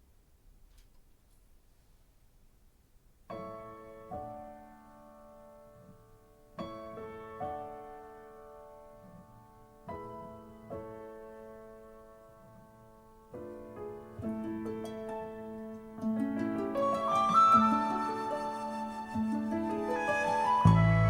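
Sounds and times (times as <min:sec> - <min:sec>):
piano chords of pop ballad: 0:03.4 - 0:21.0.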